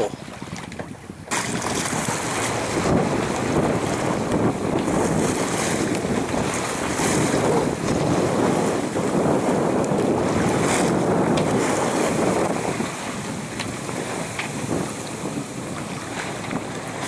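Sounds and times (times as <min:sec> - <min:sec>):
waves washing: 0:00.0 - 0:17.0
wind buffeting microphone: 0:00.0 - 0:17.0.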